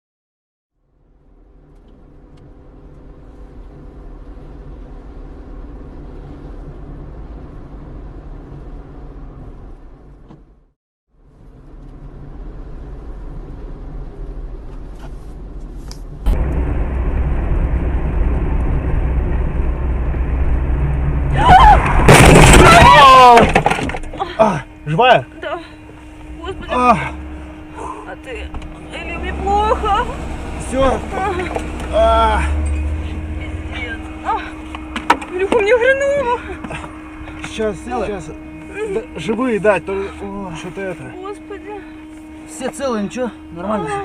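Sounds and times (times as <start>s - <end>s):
car engine: 0.8s - 44.0s
road noise: 0.8s - 44.0s.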